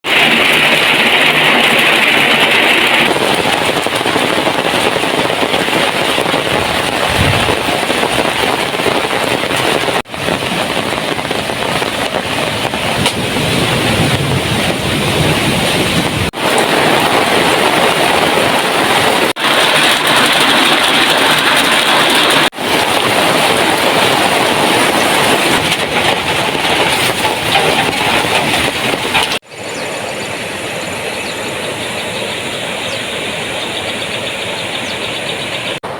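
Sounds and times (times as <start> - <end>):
heavy rain pouring: 0.0 - 29.5.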